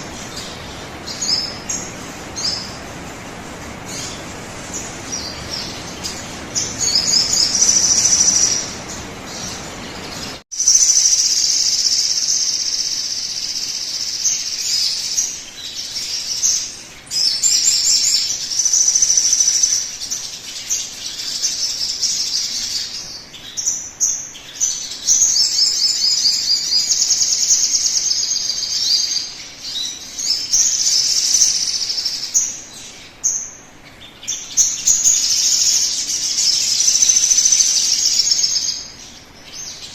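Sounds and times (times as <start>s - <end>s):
bird chirping trills: 0.0s - 39.9s.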